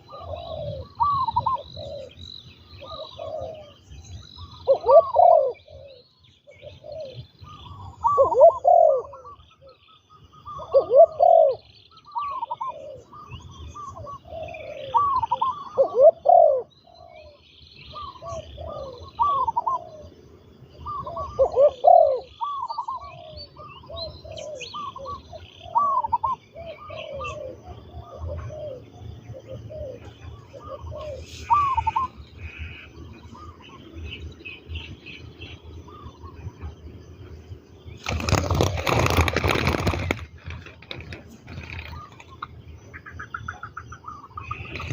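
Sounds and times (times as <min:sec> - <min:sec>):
dove cooing: 0:00.0 - 0:36.9, 0:38.0 - 0:42.5, 0:43.1 - 0:44.9
small birds chirping: 0:00.0 - 0:44.9.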